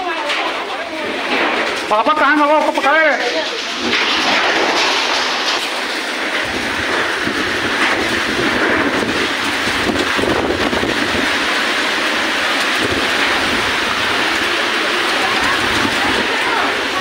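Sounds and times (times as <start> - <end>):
heavy rain: 0.0 - 17.0
wind: 0.0 - 17.0.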